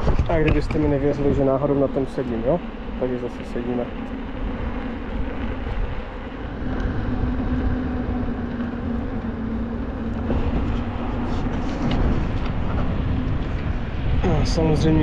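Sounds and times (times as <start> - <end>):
steady low motor hum: 0.0 - 15.0
wind buffeting microphone: 0.0 - 15.0.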